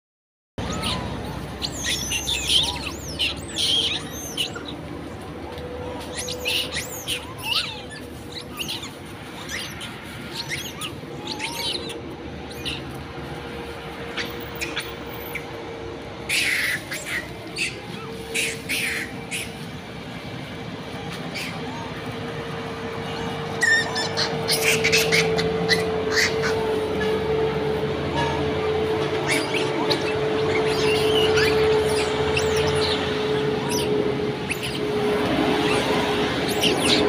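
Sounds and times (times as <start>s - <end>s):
high chirping calls: 0.6s - 4.9s, 6.0s - 12.9s, 14.0s - 15.6s, 16.3s - 19.7s, 20.9s - 27.2s, 28.8s - 37.0s.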